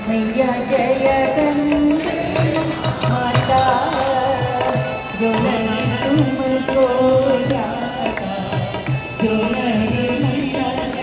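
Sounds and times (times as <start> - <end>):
person singing devotional song: 0.0 - 11.0
tabla drumming: 0.2 - 11.0.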